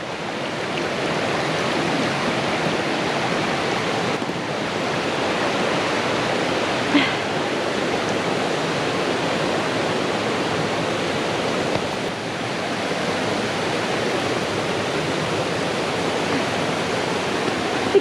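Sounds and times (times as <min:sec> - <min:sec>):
creek water rushing over rocks: 0:00.0 - 0:18.0.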